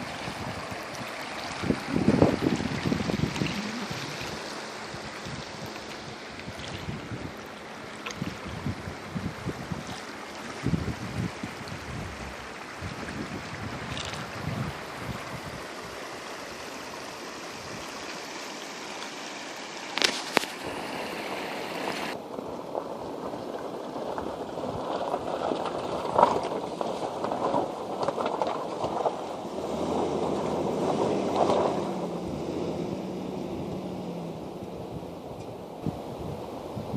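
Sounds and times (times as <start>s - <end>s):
river water rushing and gurgling: 0.0s - 36.9s.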